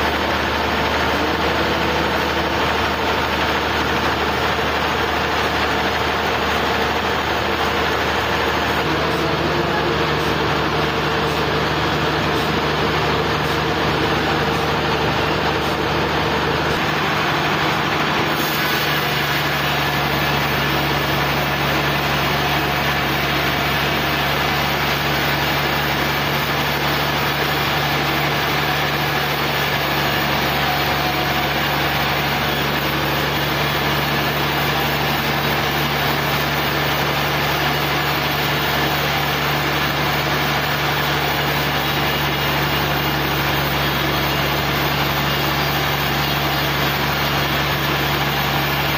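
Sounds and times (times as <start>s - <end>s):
sawmill engine humming: 0.0s - 48.9s.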